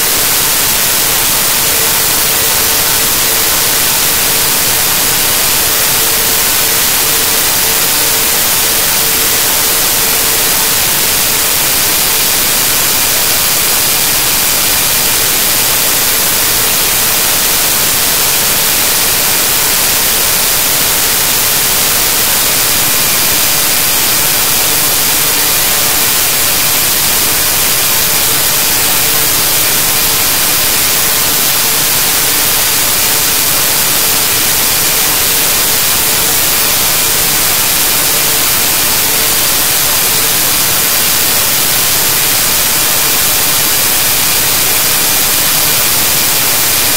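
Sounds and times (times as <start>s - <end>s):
loud static hiss: 0.0s - 46.9s.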